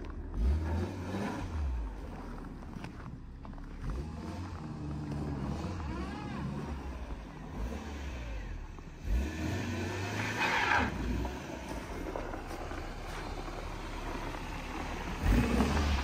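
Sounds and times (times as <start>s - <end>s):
car engine running with surges: 0.0s - 16.0s.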